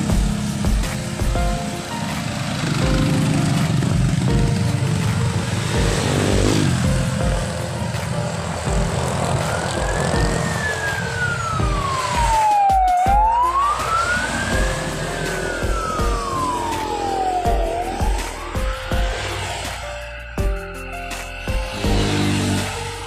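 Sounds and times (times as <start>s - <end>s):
background music with low beat: 0.0s - 23.0s
emergency siren wailing: 2.4s - 23.0s.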